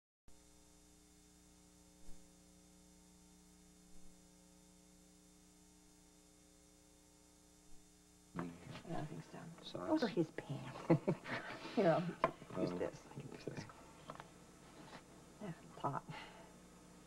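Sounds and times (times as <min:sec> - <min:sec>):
faint electrical hum: 0:00.3 - 0:17.0.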